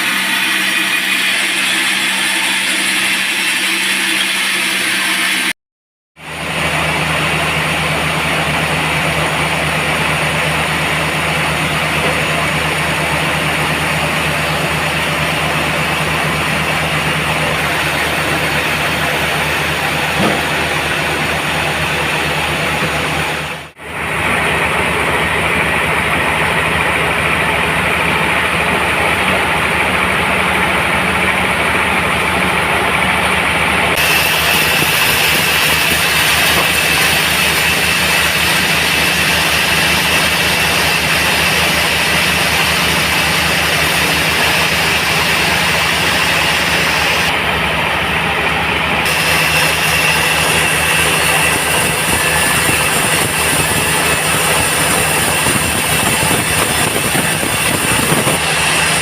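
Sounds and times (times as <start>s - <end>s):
band saw machine hum: 0.0s - 5.5s, 6.2s - 59.0s.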